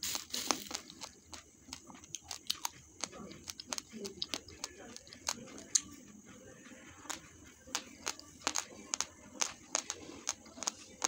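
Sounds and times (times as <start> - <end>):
rice grains being chewed: 0.0 - 11.0.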